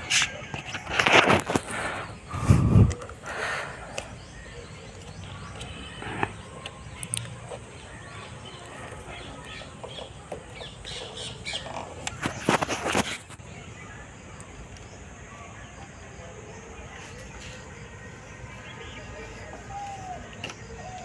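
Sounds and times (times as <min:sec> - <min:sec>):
birds squawking and chirping: 0:00.0 - 0:21.0.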